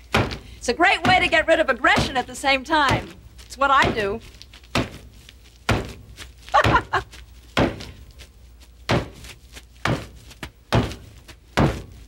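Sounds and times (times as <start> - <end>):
ice wrapped in cloth thudding on wood: 0.1 - 12.0.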